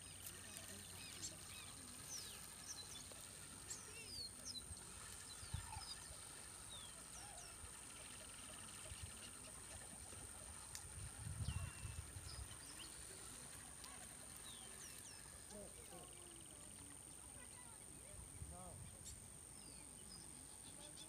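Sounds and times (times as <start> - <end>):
steady high-pitched whine: 0.0 - 21.0.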